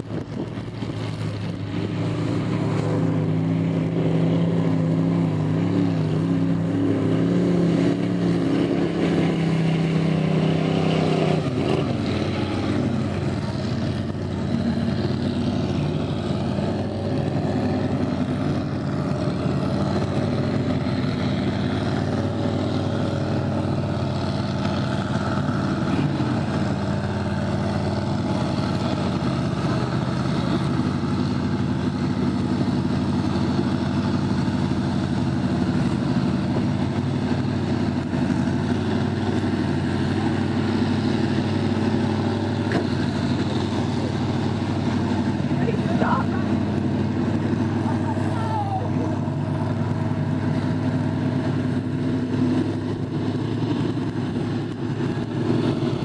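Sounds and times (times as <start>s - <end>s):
pickup truck engine running: 0.0s - 56.0s.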